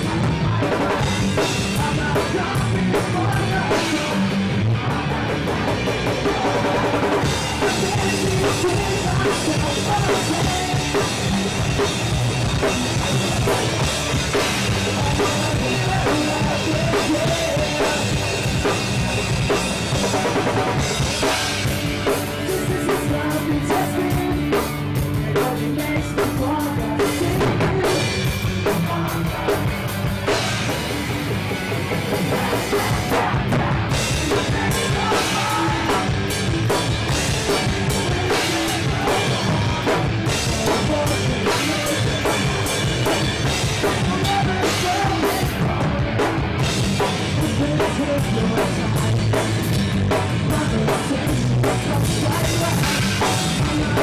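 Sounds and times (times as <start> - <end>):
pop-punk band playing live: 0.0 - 54.0.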